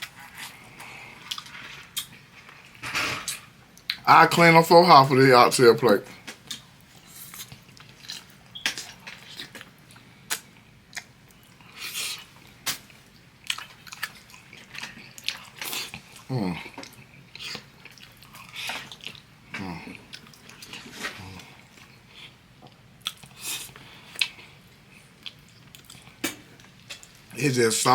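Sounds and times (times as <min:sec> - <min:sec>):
chewing and mouth smacking: 0:00.0 - 0:04.0, 0:06.3 - 0:27.2.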